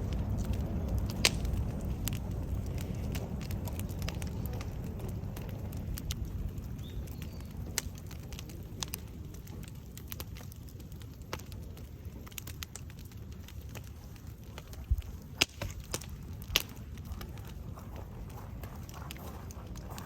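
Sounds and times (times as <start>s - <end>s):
bonfire burning and crackling: 0.0s - 20.0s.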